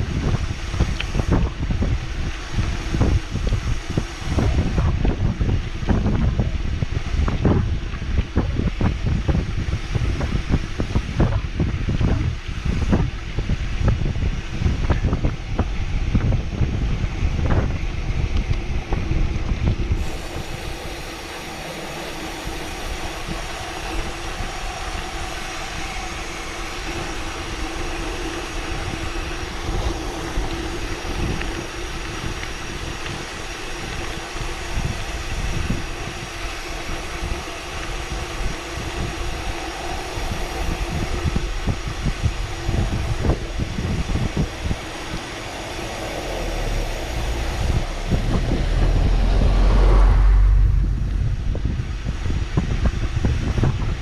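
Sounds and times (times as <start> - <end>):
steady droning hum: 0.0 - 54.0
wind buffeting microphone: 0.0 - 54.0.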